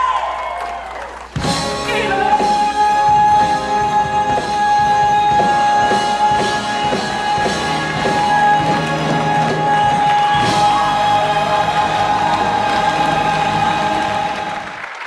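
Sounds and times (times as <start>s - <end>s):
live concert music: 0.0s - 15.0s.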